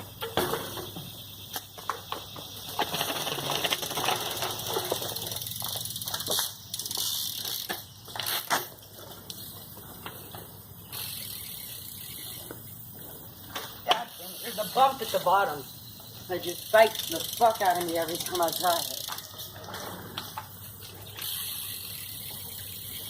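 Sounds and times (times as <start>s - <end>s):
bike clicks and knocks: 0.0s - 15.2s, 15.8s - 23.0s
bike tyres rolling: 0.0s - 23.0s.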